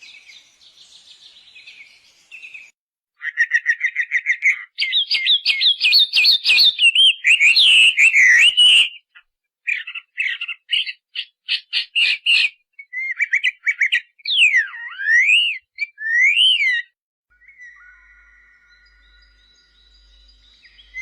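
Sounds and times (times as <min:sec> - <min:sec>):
bird chirping and whistling: 0:03.3 - 0:09.0, 0:09.7 - 0:21.0.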